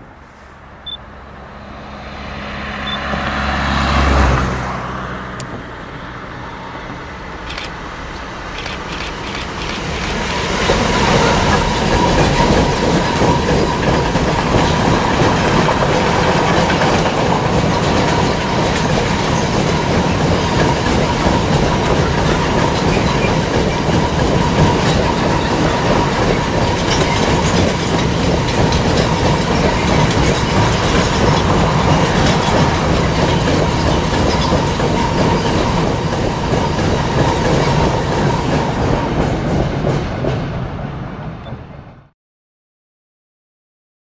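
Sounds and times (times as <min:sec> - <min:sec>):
freight train rolling on rails: 0:00.0 - 0:42.1.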